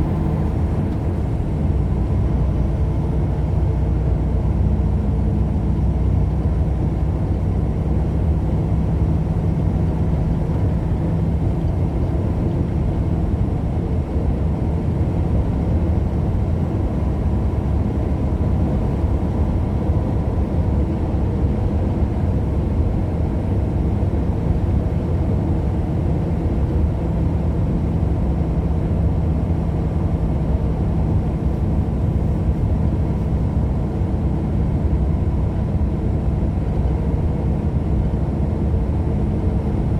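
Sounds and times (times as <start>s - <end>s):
moving car road and engine noise: 0.0s - 39.9s.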